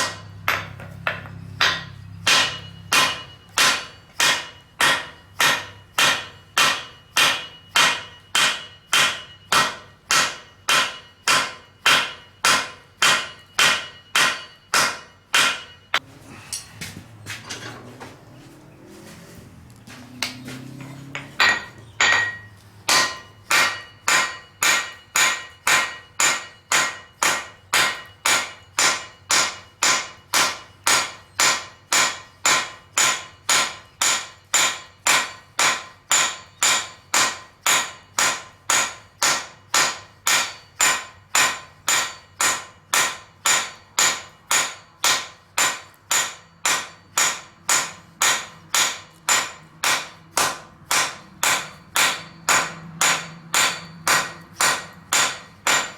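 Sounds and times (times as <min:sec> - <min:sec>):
hammer striking steel on anvil: 0:00.0 - 0:17.9, 0:20.2 - 0:55.9.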